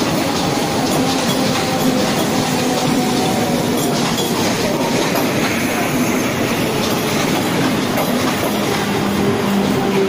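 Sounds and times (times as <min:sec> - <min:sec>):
electric train running past: 0:00.0 - 0:10.0.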